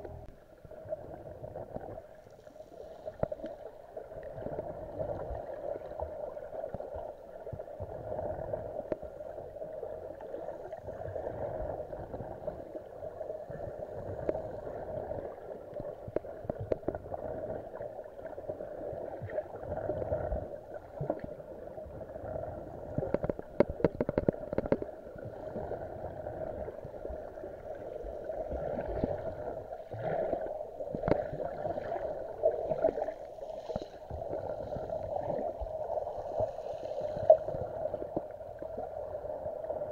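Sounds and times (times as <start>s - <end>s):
underwater water hiss and swash: 0.0s - 39.9s.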